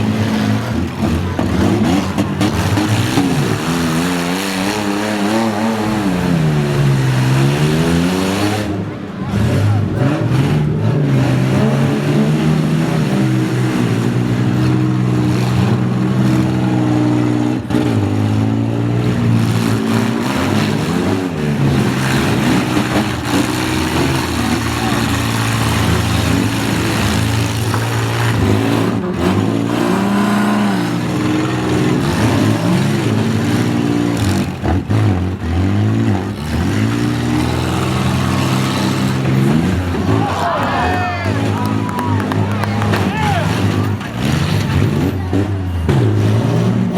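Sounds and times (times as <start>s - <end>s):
engines revving hard: 0.0s - 46.9s.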